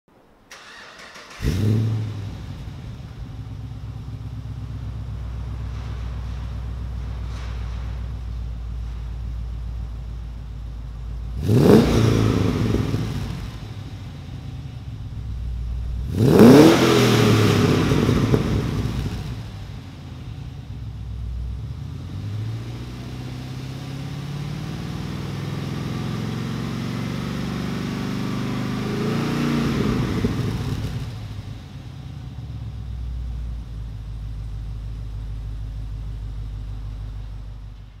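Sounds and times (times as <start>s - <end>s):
car engine idling and revving: 0.5s - 38.0s.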